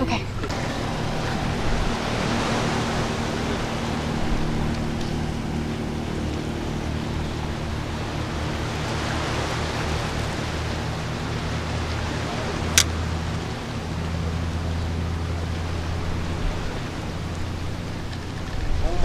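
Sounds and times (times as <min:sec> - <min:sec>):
motorboat engine drone: 0:00.0 - 0:19.0
surging water: 0:00.0 - 0:19.0.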